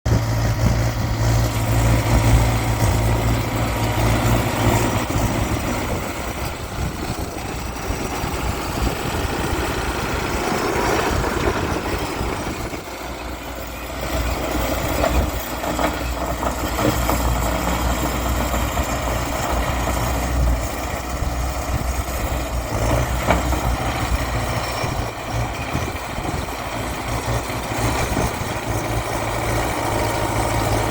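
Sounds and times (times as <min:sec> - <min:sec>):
bulldozer diesel engine: 0:00.0 - 0:30.9.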